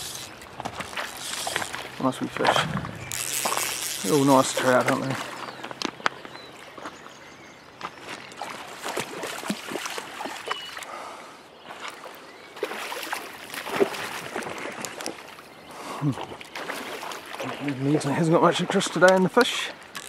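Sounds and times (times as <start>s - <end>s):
river water splashing: 0.0s - 20.0s.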